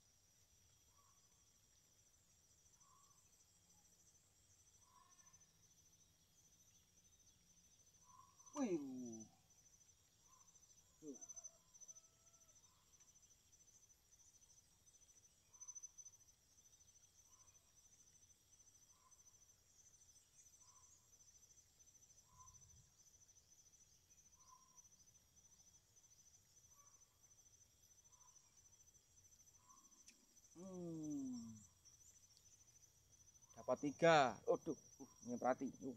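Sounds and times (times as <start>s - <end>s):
crickets chirring: 0.0s - 35.9s.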